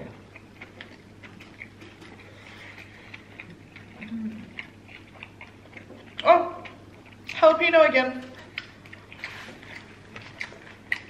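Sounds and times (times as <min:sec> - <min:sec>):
low hummed mm: 0:00.0 - 0:11.0
people chewing sandwich: 0:00.0 - 0:11.0.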